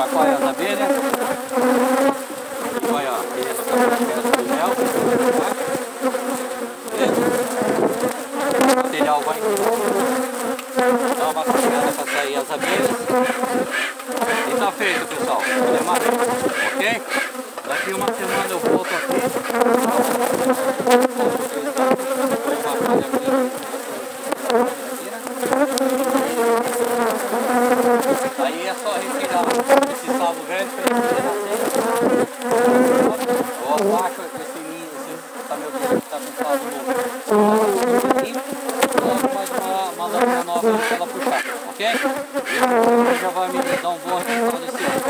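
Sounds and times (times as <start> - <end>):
honeybees buzzing: 0.0 - 45.0.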